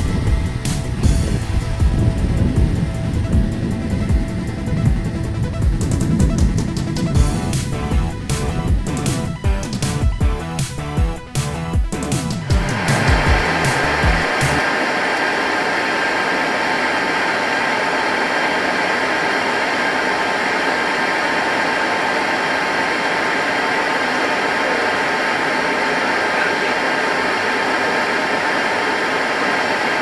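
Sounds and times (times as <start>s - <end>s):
jet engines rushing and whining: 0.0s - 30.0s.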